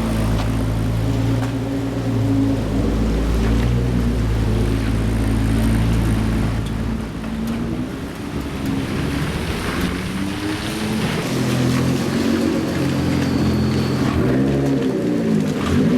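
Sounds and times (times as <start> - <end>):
car engines at low revs: 0.0 - 15.9.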